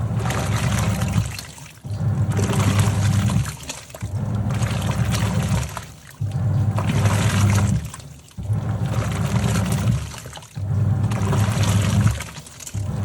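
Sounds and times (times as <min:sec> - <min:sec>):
washing machine motor humming: 0:00.0 - 0:13.0
water sloshing in tub: 0:00.0 - 0:13.0.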